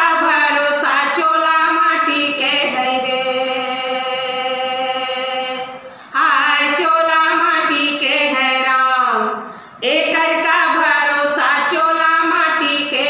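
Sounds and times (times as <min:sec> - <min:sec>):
two women singing: 0:00.0 - 0:13.0.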